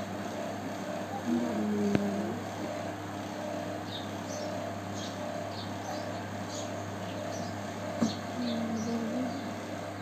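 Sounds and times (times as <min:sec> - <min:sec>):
low background hum: 0:00.0 - 0:10.0
small birds chirping: 0:00.6 - 0:10.0.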